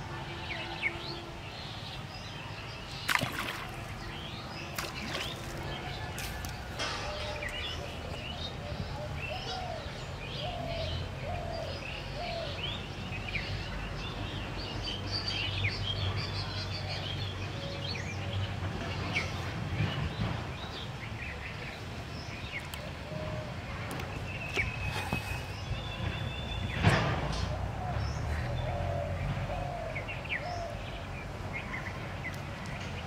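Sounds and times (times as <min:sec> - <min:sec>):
small birds chirping: 0:00.5 - 0:33.0.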